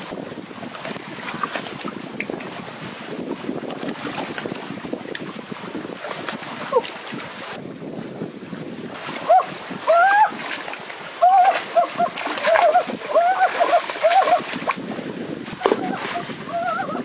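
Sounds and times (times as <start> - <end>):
creek water rushing over rocks: 0.0 - 17.0.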